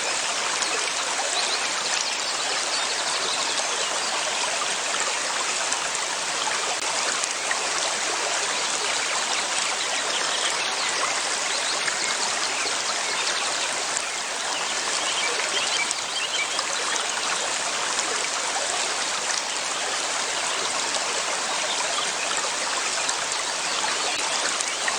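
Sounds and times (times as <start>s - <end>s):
river water flowing over stones: 0.0s - 24.9s.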